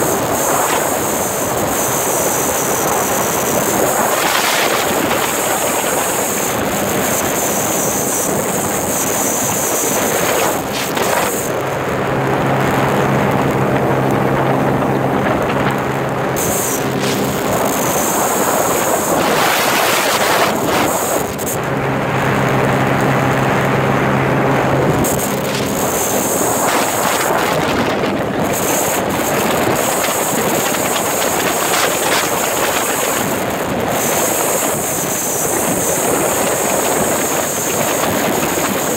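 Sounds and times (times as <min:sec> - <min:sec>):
jet ski engine drone: 0:00.0 - 0:38.9
wind rushing over microphone: 0:00.0 - 0:38.9.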